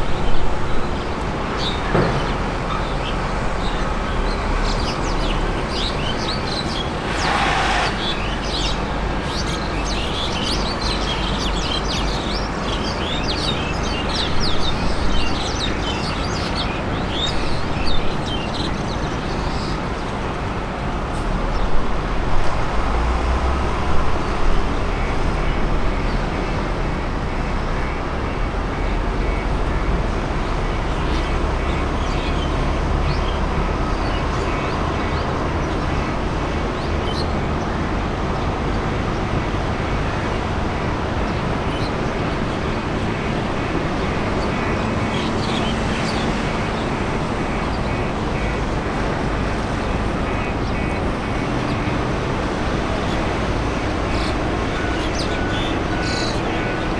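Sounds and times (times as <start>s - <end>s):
engines rumbling and roaring: 0.0s - 56.9s.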